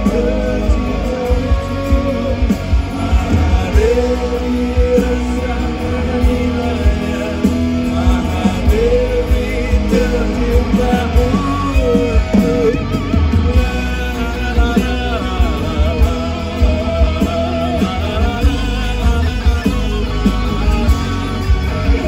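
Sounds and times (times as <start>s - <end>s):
acoustic and electric guitars: 0.0s - 22.0s
bass guitar: 0.0s - 22.0s
person singing: 0.0s - 22.0s
steady drum beat: 0.0s - 22.0s.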